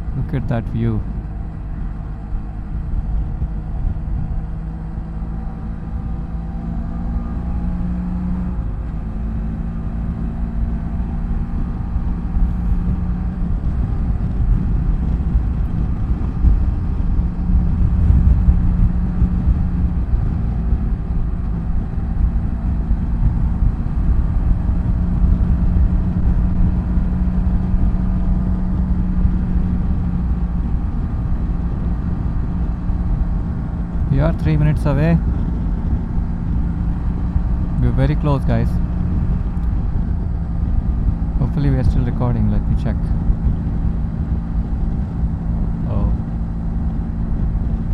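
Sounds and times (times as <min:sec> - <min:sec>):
motorcycle engine cruising: 0:00.0 - 0:47.9
wind and road rumble: 0:00.0 - 0:47.9.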